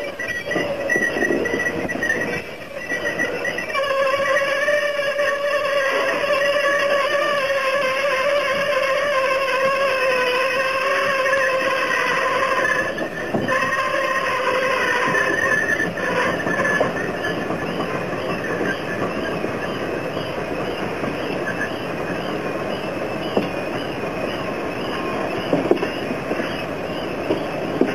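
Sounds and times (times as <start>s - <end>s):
steady rushing noise: 0.0s - 27.9s
wavering squeal of brushes: 0.0s - 27.9s.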